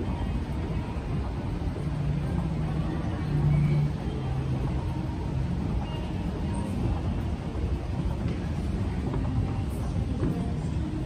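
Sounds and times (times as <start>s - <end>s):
faint indistinct voices: 0.0s - 11.0s.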